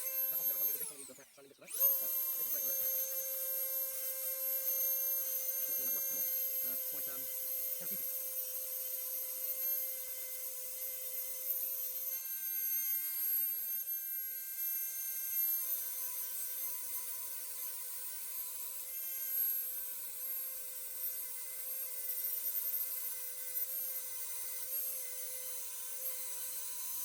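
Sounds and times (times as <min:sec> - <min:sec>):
rotary tool sanding metal: 0:00.0 - 0:27.0.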